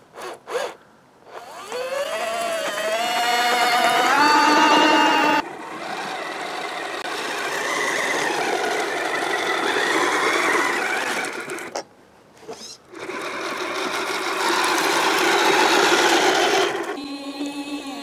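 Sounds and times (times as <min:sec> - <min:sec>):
electric motor whining: 0:00.2 - 0:11.8, 0:12.6 - 0:17.6.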